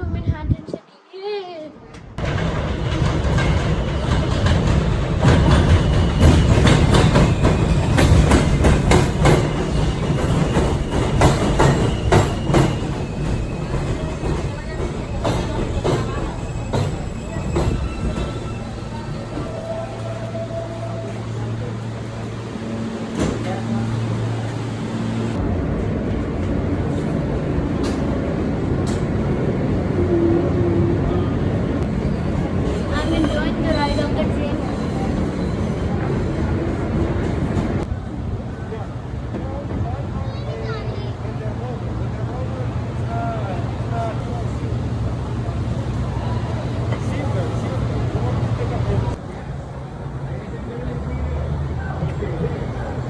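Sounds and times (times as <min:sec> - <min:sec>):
train low rumble: 0:01.9 - 0:53.0.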